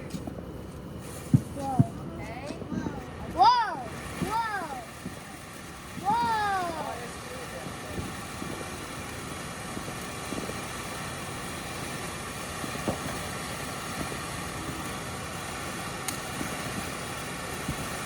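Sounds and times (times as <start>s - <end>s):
distant fireworks popping: 0.0s - 18.0s
outdoor background rumble: 0.0s - 18.0s.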